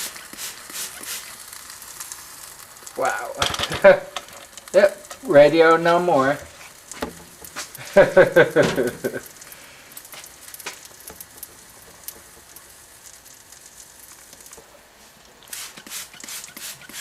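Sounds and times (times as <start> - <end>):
hiss: 0.0 - 5.5, 6.2 - 17.0
burning plastic crackling: 0.0 - 17.0.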